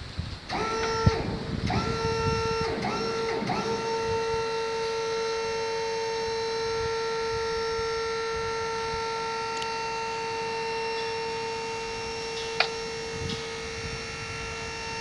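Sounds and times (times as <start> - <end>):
hydraulic pump whine: 0.0 - 15.0.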